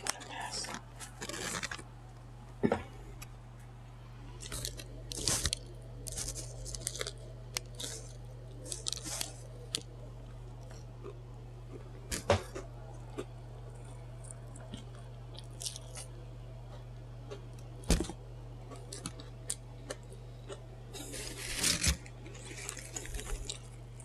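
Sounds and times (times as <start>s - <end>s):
low steady hum: 0.0s - 24.0s
chewing and biting sandwich: 4.3s - 24.0s.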